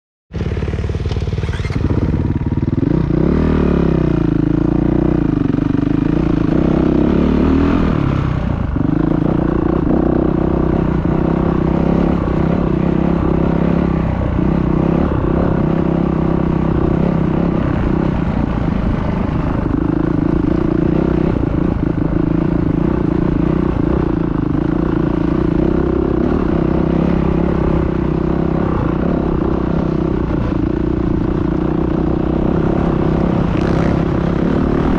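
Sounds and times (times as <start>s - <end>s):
dirt bike engine running hard: 0.3s - 34.9s.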